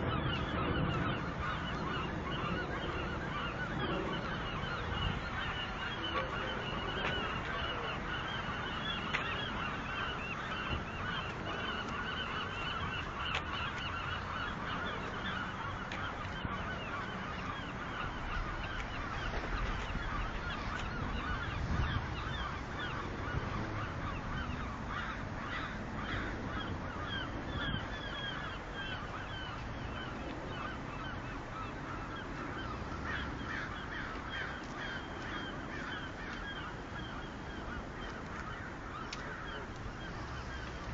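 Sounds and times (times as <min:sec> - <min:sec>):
flock of birds calling: 0:00.0 - 0:40.9.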